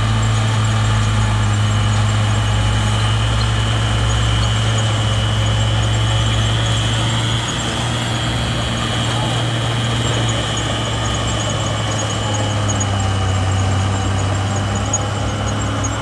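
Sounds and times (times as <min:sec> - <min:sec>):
bulldozer diesel engine humming: 0:00.0 - 0:16.0.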